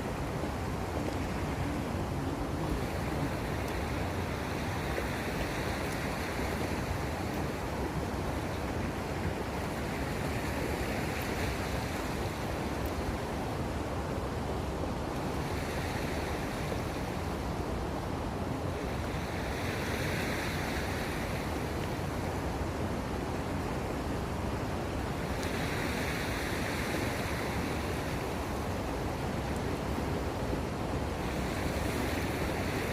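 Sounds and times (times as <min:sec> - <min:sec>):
sea waves washing in: 0:00.0 - 0:32.9
wind on microphone: 0:00.0 - 0:32.9.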